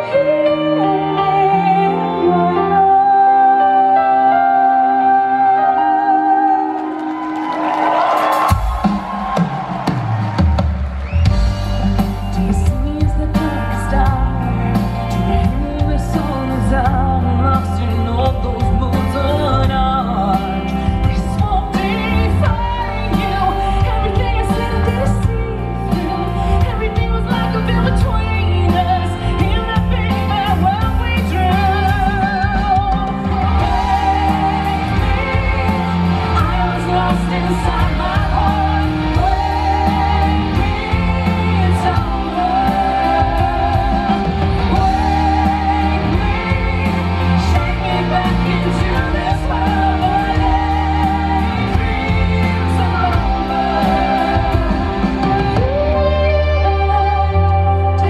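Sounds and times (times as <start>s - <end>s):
woman singing with vibrato: 0.0s - 7.2s, 12.3s - 58.0s
live band playing: 0.0s - 58.0s.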